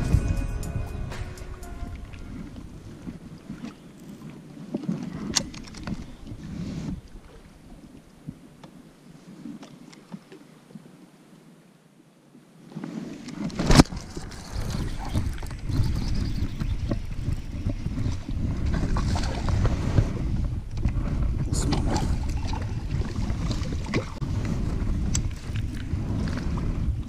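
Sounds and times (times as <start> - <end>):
wind noise on microphone: 0.0 - 8.4, 13.4 - 27.0.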